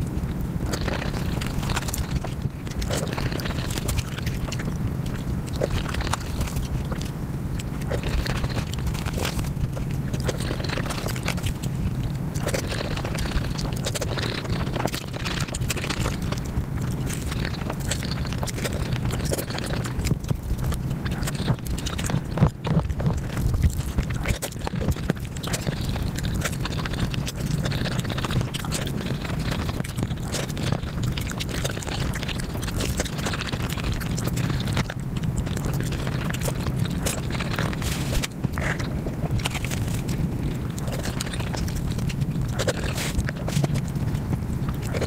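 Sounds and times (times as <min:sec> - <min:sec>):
low hum: 0:00.0 - 0:45.0
rapid chewing and smacking: 0:00.0 - 0:45.0.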